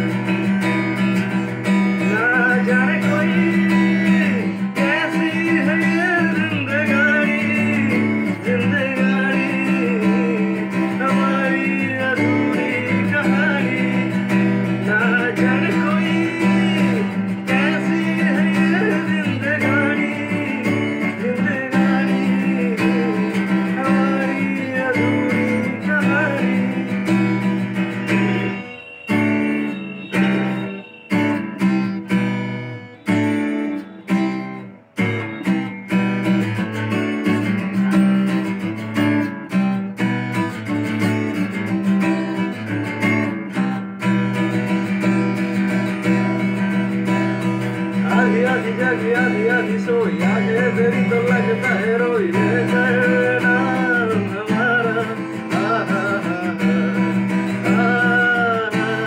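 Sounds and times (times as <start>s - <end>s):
man singing: 0.0s - 31.8s, 40.7s - 59.0s
acoustic guitar strumming: 0.0s - 59.0s.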